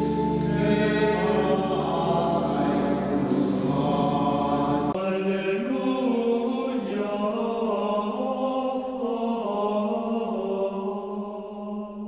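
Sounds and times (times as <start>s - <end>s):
slow sung chant: 0.0s - 12.0s.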